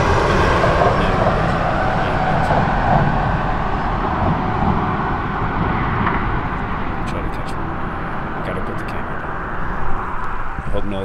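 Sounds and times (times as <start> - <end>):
highway traffic rumble: 0.0 - 11.0
semi truck: 0.0 - 11.0.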